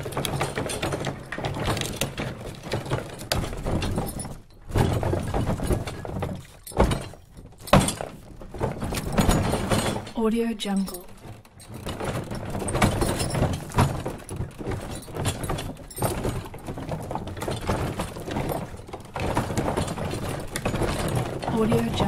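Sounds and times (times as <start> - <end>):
wooden wagon rattling on rocky road: 0.0 - 22.0.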